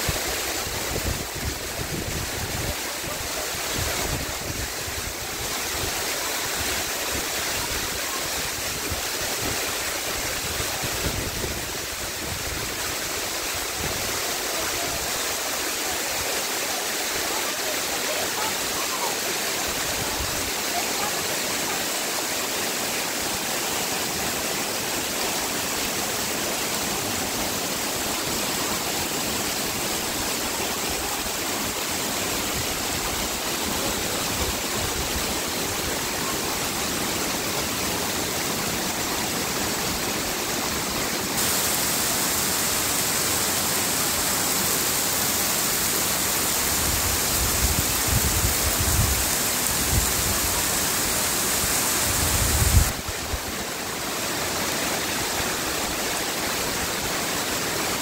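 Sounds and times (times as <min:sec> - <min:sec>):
waterfall rushing over boulders: 0:00.0 - 0:58.0.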